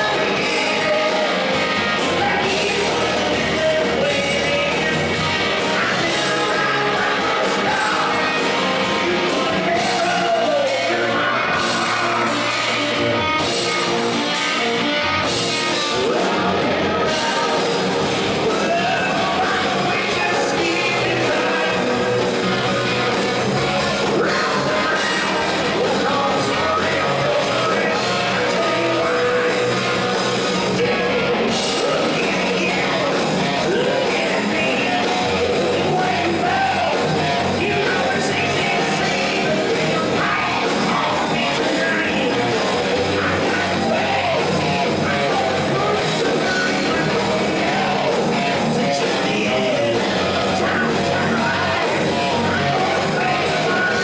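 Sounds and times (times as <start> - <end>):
bass guitar: 0.0 - 54.0
drum kit: 0.0 - 54.0
electric guitar: 0.0 - 54.0
person singing: 0.0 - 54.0.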